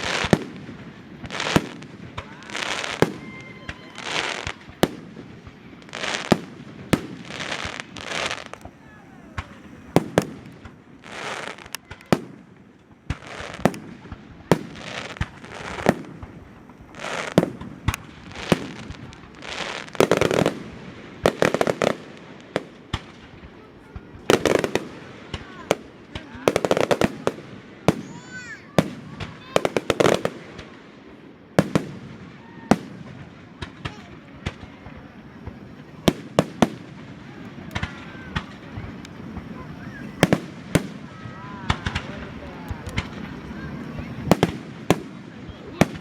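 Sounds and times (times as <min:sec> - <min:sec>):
crackling hissing firework bursts: 0:00.0 - 0:46.0
firework bangs: 0:00.0 - 0:46.0.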